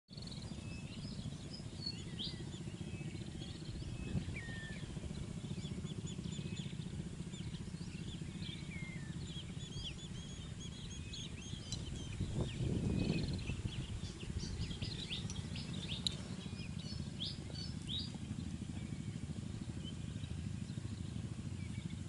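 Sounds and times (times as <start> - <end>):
flock of birds chirping: 0.1 - 22.0
steady low rumble: 0.2 - 22.0.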